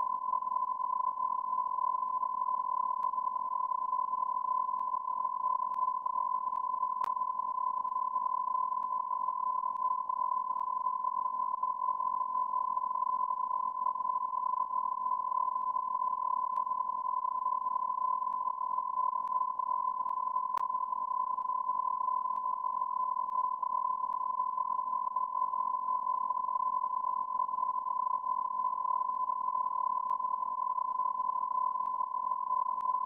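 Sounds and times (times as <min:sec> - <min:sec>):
continuous electronic beep tone: 0:00.0 - 0:33.0.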